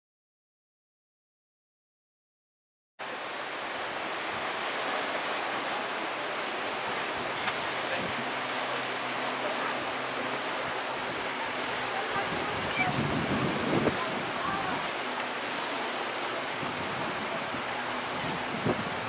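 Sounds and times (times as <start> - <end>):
distant motorboat hum: 3.0 - 19.0
sea surf: 3.0 - 19.0
wind: 3.0 - 19.0.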